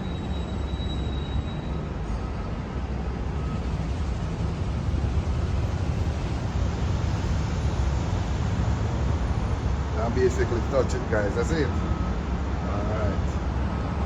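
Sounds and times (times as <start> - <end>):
moving vehicle rumble: 0.0 - 14.0.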